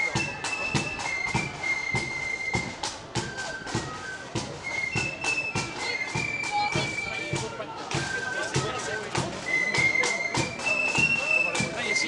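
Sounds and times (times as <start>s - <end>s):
flutes playing a tune: 0.0s - 12.0s
marching drum beats: 0.0s - 12.0s.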